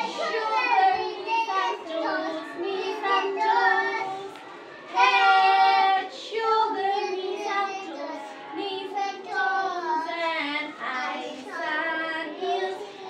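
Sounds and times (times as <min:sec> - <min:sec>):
children and woman singing: 0:00.0 - 0:13.0.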